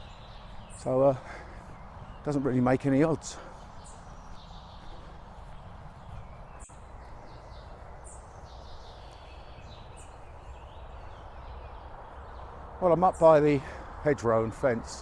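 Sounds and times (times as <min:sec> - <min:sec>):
distant motorway traffic: 0:00.0 - 0:15.0
small birds chirping: 0:00.0 - 0:15.0.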